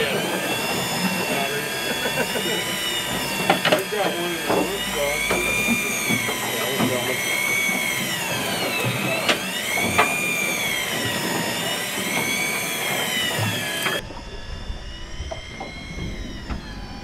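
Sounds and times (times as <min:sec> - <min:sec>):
electric fishing reel motor whining: 0:00.0 - 0:17.0.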